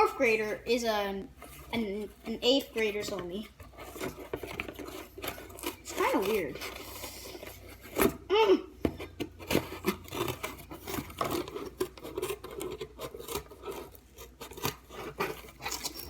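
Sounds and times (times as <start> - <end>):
scissors cutting cardboard: 1.4 - 16.0.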